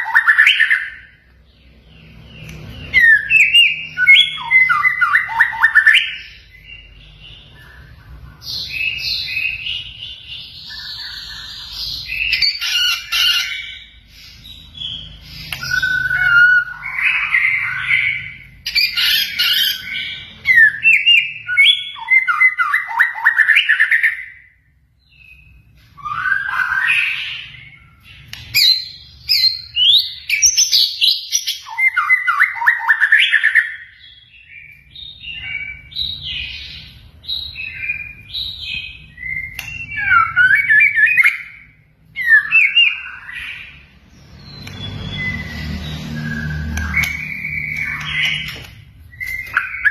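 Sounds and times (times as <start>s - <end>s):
bird singing: 0.0s - 49.9s.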